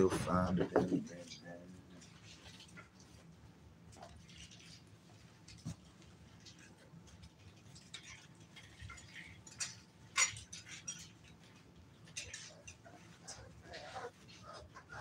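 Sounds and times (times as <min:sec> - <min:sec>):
puppies moving on pads: 0:00.0 - 0:15.0.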